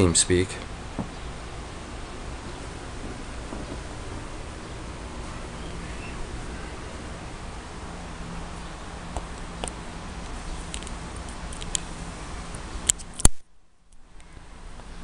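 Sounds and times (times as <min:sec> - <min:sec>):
computer fans whirring: 0:00.0 - 0:15.0.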